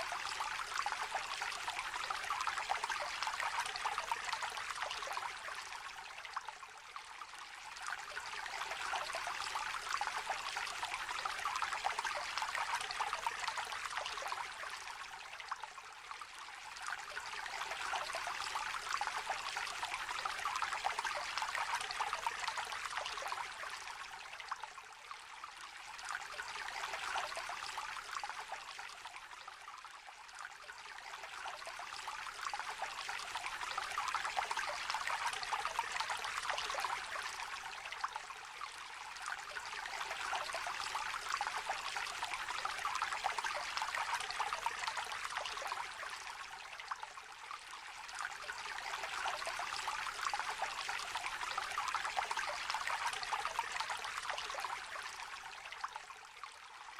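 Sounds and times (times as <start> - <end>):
stream babbling over stones: 7.1 - 56.9.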